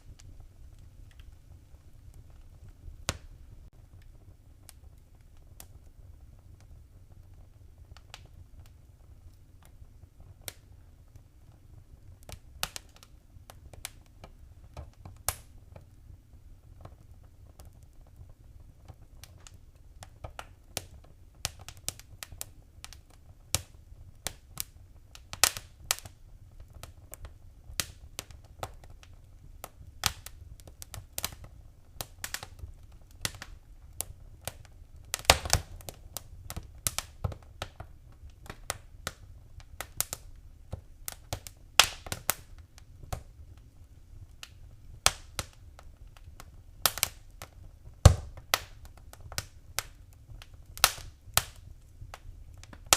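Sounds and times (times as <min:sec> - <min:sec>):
low steady fire rumble: 0:00.0 - 0:52.9
wood fire crackling and popping: 0:00.0 - 0:52.9.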